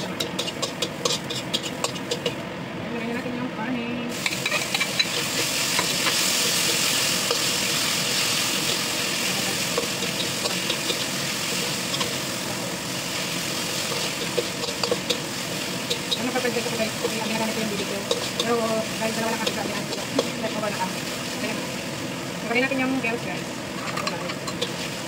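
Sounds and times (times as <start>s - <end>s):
metal spatula scraping wok: 0.0s - 2.4s, 4.1s - 12.4s, 13.1s - 21.4s, 23.8s - 25.0s
meat sizzling in a wok: 0.0s - 2.8s, 4.1s - 25.0s.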